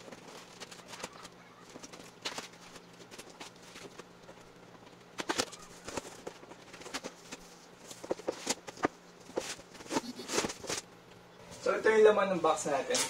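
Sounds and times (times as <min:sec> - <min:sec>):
cardboard and tape crackling: 0:00.0 - 0:10.9.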